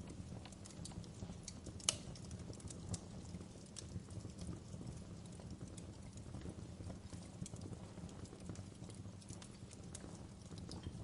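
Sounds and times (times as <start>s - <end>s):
low rumble of flames: 0.0s - 11.0s
wood crackling and popping: 0.0s - 11.0s.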